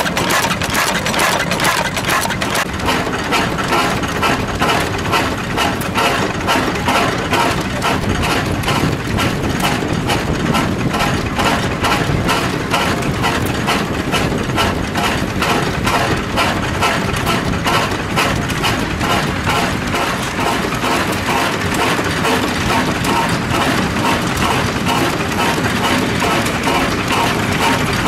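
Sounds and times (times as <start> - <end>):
fast even mechanical clatter: 0.0 - 28.0
stationary oil engine running: 0.0 - 28.0.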